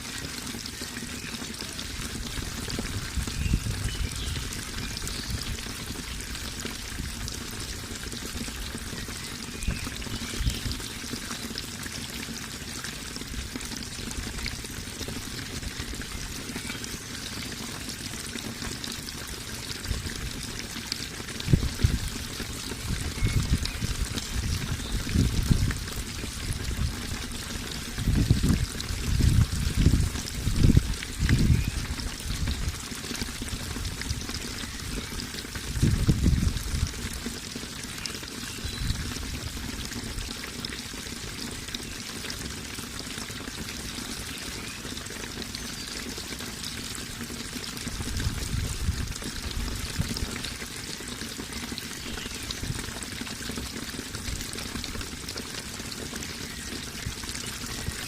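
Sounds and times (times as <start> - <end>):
running water trickling: 0.0 - 58.0.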